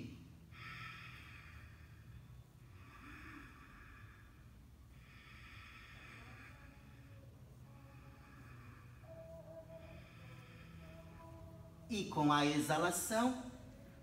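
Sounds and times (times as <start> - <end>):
low room hum: 0.0 - 14.0
faint breathing: 0.3 - 11.9.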